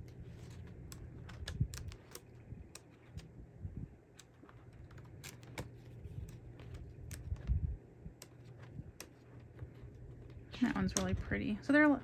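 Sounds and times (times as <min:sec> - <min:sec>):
paper rustling and light clicks: 0:00.0 - 0:03.3, 0:04.1 - 0:07.6, 0:08.2 - 0:11.9
book pages turning: 0:00.0 - 0:03.4, 0:04.1 - 0:11.4.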